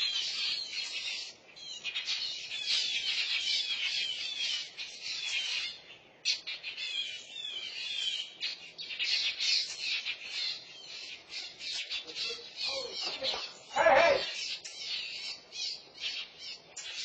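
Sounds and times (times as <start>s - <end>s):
mockingbirds calling: 0.0s - 17.0s.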